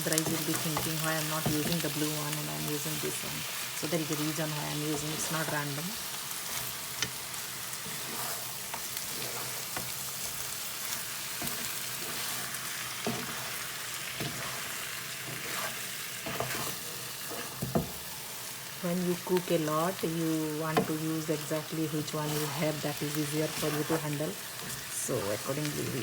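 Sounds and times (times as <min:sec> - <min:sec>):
meat sizzling in a pot: 0:00.0 - 0:26.0
spatula scraping and stirring: 0:00.1 - 0:18.8, 0:19.8 - 0:26.0.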